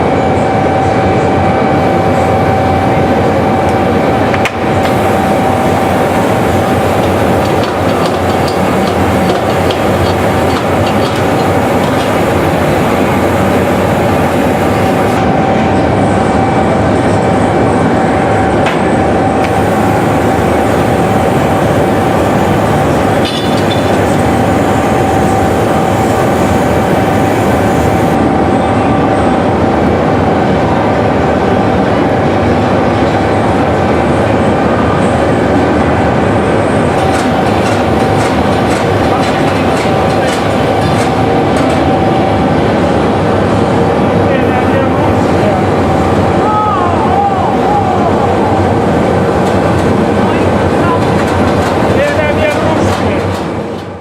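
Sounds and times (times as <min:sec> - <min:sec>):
loud machine noise with hum: 0:00.0 - 0:54.0.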